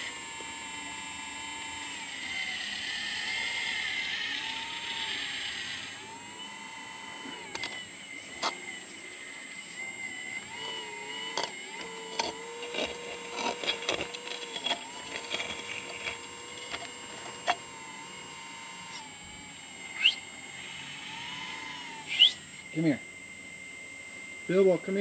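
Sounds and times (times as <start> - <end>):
hydraulic pump whining: 0.0 - 25.0.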